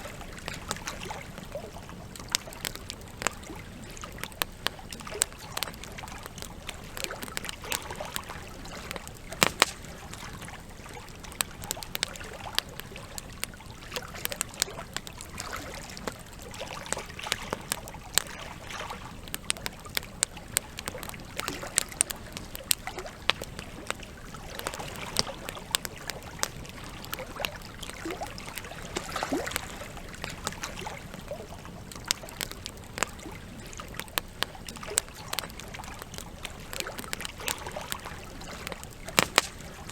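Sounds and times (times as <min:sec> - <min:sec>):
campfire crackling and popping: 0:00.0 - 0:39.9
trickling water: 0:00.0 - 0:39.9.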